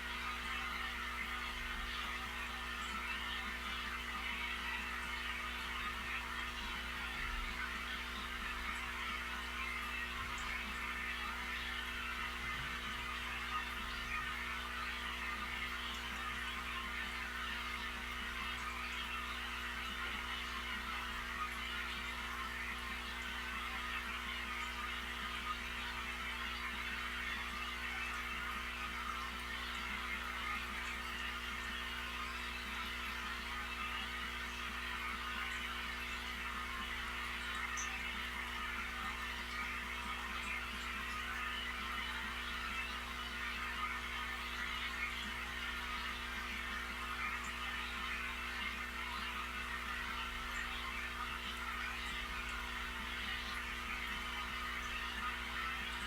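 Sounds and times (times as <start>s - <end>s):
aquarium equipment hum: 0.0s - 56.0s.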